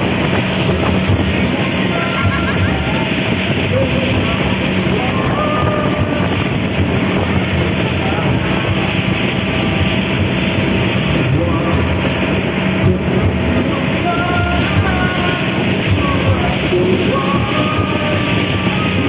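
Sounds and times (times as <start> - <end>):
boat engine droning: 0.0 - 19.0
wind buffeting microphone: 0.0 - 19.0.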